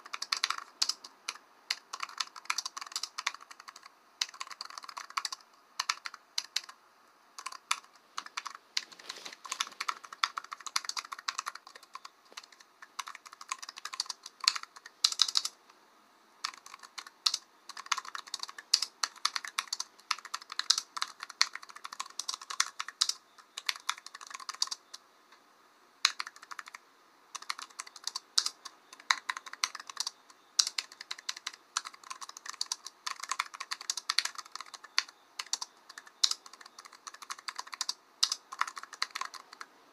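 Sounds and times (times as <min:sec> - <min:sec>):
typing on computer keyboard: 0:00.0 - 0:06.8, 0:07.4 - 0:15.6, 0:16.4 - 0:25.0, 0:26.0 - 0:39.7.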